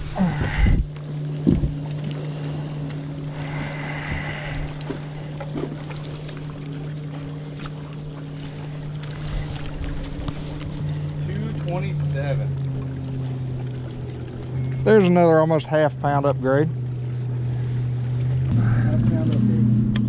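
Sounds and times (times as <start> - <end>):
electric trolling motor humming: 0.0 - 20.0.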